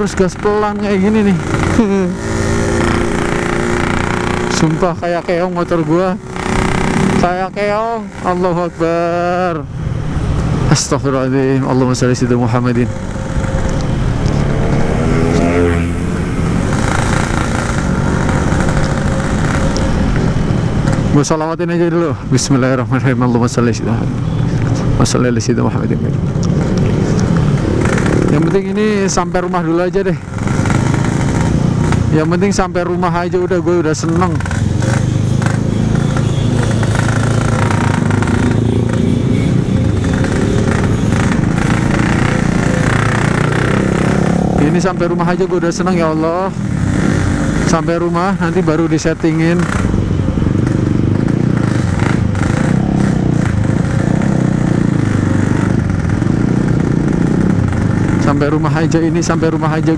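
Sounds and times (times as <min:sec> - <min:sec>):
two-stroke engine at low revs: 0:00.0 - 0:59.9.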